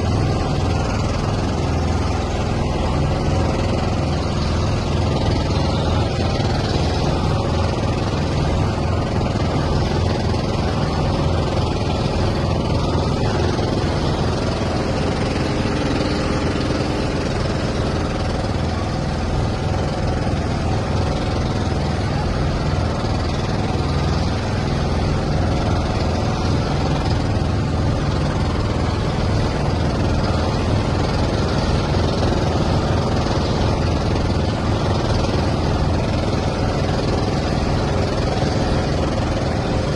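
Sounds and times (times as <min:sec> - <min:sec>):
engine running with deep drone: 0:00.0 - 0:39.9.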